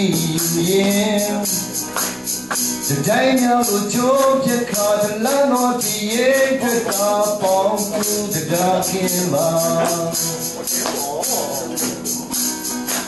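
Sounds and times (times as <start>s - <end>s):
man singing: 0.0s - 2.0s, 2.8s - 13.0s
acoustic guitar strumming: 0.0s - 13.0s.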